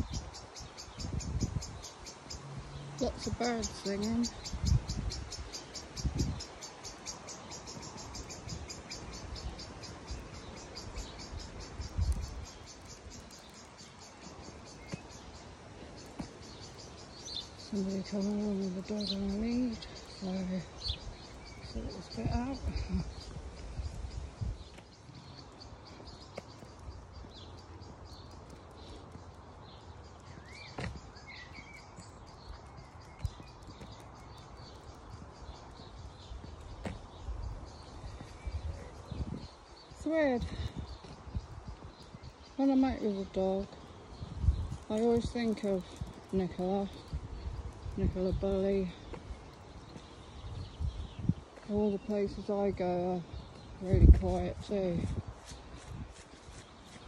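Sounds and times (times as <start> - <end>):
birds singing: 0.0 - 57.0.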